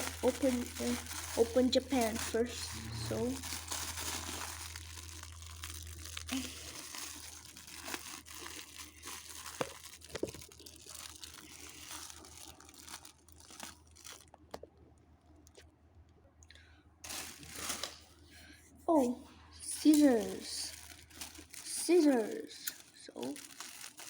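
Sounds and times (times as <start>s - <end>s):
packaging crinkling and tearing: 0.0s - 14.7s, 17.0s - 18.1s, 19.8s - 24.0s
packaging rustle: 0.0s - 14.7s, 17.0s - 18.1s, 19.8s - 24.0s.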